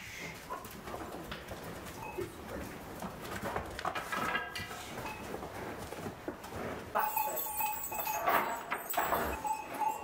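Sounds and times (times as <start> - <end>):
cattle in a barn: 0.0 - 10.0.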